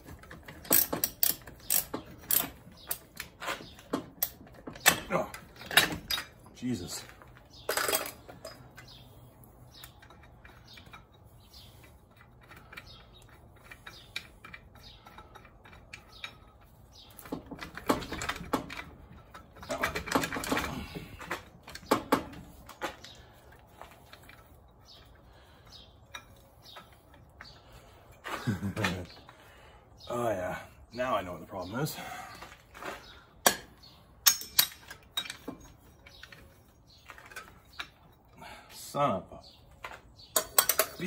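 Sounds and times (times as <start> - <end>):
hand tools clicking on metal: 0.0 - 9.0, 9.7 - 29.4, 32.8 - 38.4, 39.8 - 41.0.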